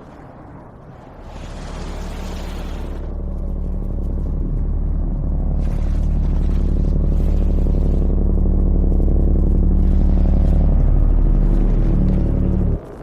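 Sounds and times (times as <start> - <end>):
low synthesizer drone: 0.0 - 13.0
rumbling bass: 0.0 - 13.0.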